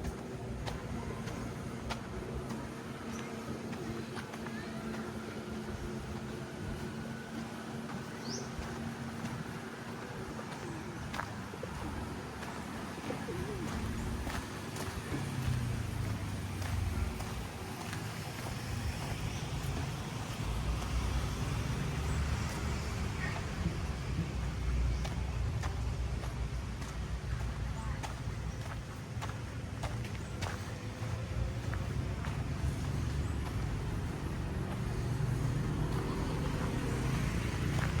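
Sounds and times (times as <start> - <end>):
road traffic rumble: 0.0 - 38.0
vehicle passing: 0.0 - 38.0.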